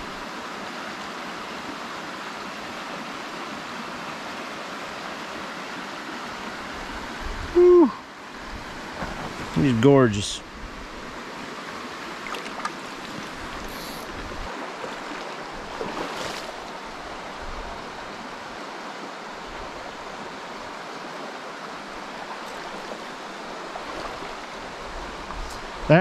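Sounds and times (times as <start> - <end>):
creek running over rocks: 0.0 - 26.0.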